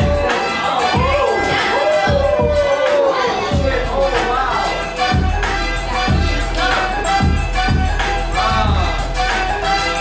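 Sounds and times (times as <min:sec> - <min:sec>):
music with heavy kick drum: 0:00.0 - 0:02.9, 0:03.5 - 0:10.0.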